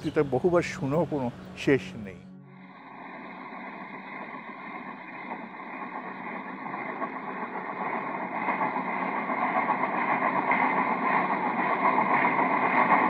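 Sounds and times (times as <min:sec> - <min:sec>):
steam train rumbling: 0:00.0 - 0:13.0.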